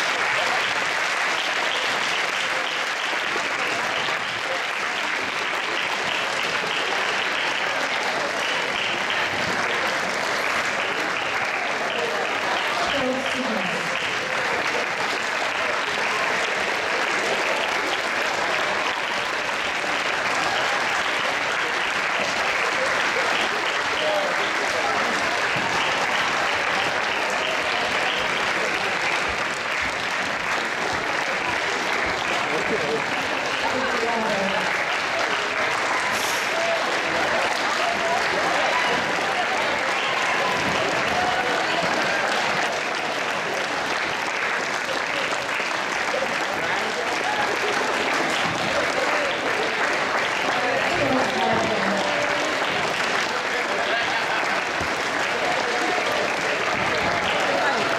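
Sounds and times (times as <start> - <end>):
audience applauding: 0.0 - 57.9.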